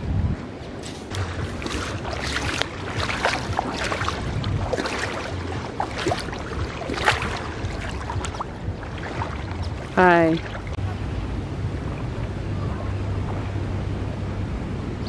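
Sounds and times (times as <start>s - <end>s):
wind buffeting microphone: 0.0s - 15.0s
water splashing: 0.5s - 14.2s.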